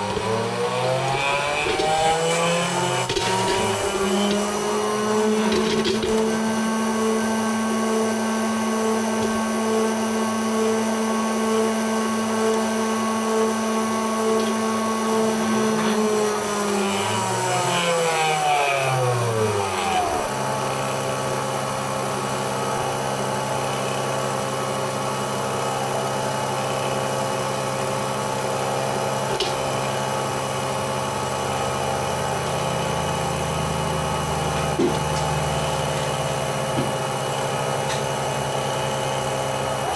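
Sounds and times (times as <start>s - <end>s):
engraving machine motor whine: 0.0s - 39.9s.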